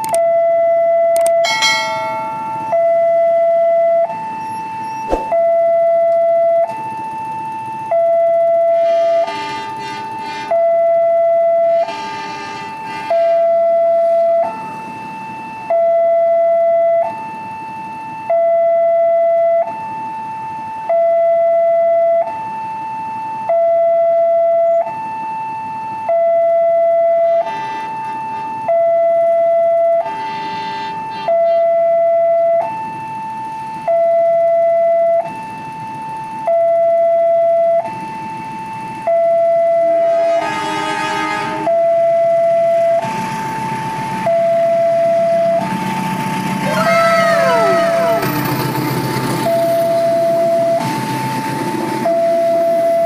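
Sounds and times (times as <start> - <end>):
level crossing two-tone alarm: 0.0 - 9.7, 10.5 - 12.0, 12.7 - 50.9, 52.0 - 53.0.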